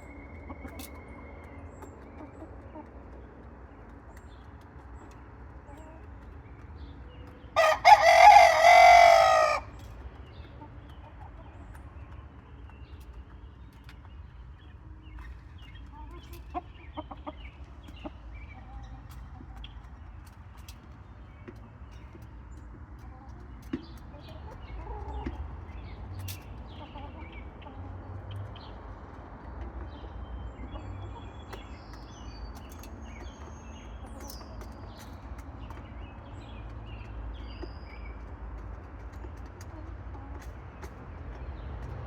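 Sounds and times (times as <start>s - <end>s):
chickens clucking: 0.0s - 42.0s
wild birds chirping: 0.0s - 42.0s.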